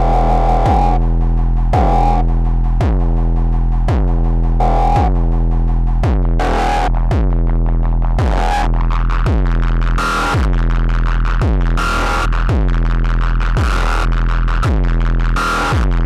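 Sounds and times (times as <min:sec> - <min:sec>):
electronic kick drum: 0:00.0 - 0:16.0
synthesizer bass drone: 0:00.0 - 0:16.0.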